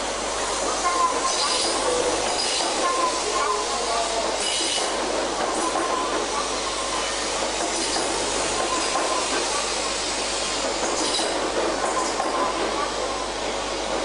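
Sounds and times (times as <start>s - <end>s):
train running hiss: 0.0s - 14.0s.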